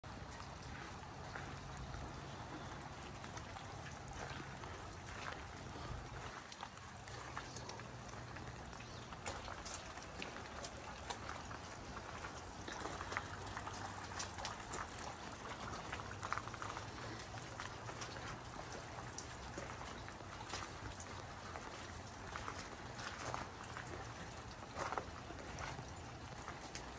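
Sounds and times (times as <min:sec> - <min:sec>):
footsteps crunching on wet gravel: 0:00.1 - 0:26.9
steady outdoor hiss: 0:00.1 - 0:26.9.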